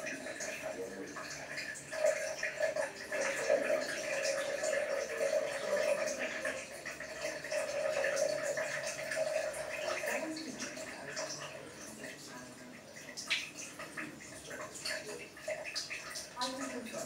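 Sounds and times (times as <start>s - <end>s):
liquid stream splashing on tiles: 0.0s - 17.0s.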